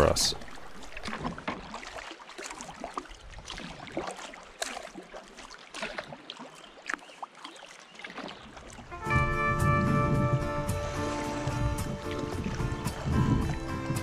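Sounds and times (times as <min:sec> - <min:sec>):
paddle splashes and drips: 0:00.0 - 0:14.0.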